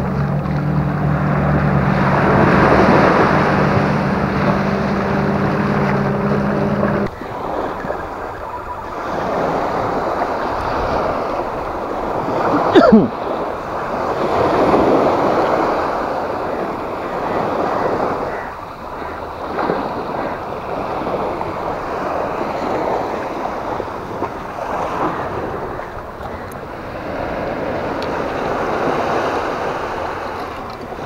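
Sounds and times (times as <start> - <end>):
small waves washing on shore: 0.0 - 31.0.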